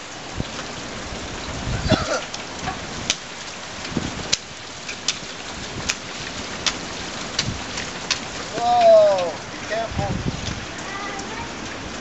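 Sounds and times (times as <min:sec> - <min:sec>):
rain hiss: 0:00.0 - 0:12.0
raindrops ticking: 0:00.0 - 0:12.0.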